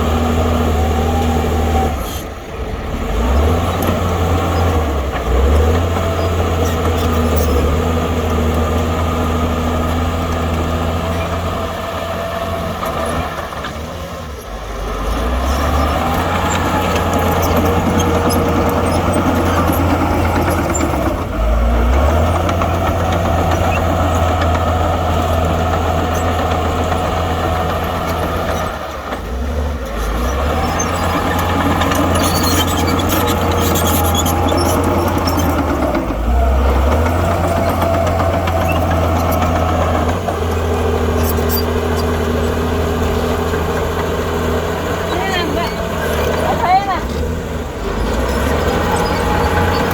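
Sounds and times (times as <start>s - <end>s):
diesel engine under load: 0.0s - 49.9s.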